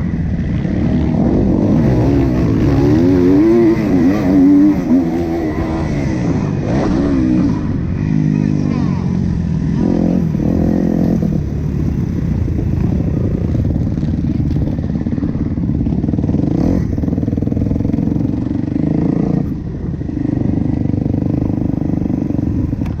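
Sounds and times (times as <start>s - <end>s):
motocross bike engine revving: 0.0s - 19.6s.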